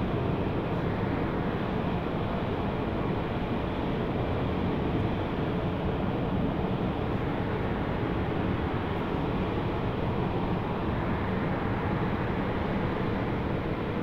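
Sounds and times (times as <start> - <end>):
low rumble background noise: 0.0 - 14.0.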